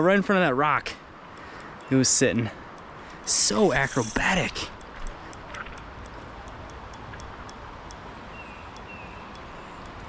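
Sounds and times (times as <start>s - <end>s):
light sharp ticks: 0.9s - 10.0s.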